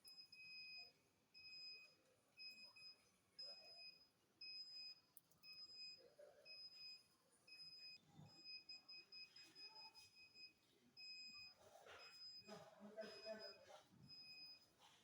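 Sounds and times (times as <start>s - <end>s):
electronic detector beeping: 0.0s - 14.7s.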